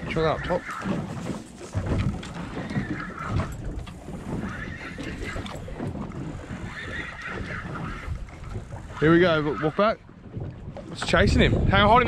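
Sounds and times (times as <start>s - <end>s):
water slapping against boat hull: 0.0s - 12.0s
wind on microphone: 0.0s - 12.0s.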